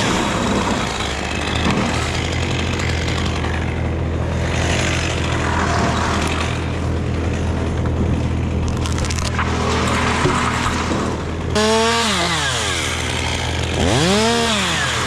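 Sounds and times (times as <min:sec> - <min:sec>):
chainsaw running: 0:00.0 - 0:15.0.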